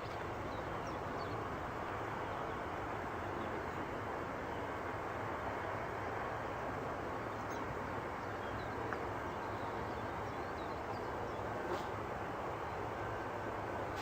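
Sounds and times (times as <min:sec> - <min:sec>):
background hiss and rumble: 0:00.0 - 0:14.0.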